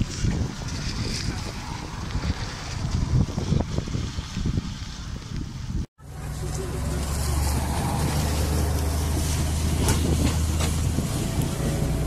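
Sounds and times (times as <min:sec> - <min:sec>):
low engine hum: 0:01.3 - 0:12.0.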